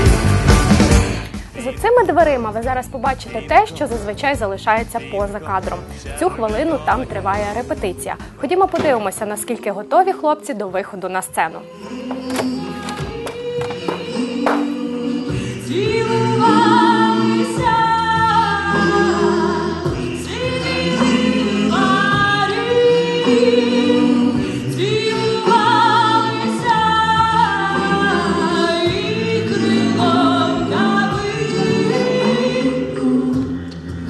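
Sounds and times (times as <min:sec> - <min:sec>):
vocal group singing in harmony: 0:00.0 - 0:10.7, 0:11.4 - 0:34.0.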